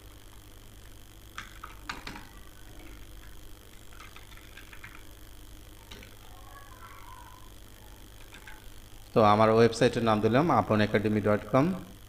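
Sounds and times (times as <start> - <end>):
low electrical hum and hiss: 0.0 - 12.0.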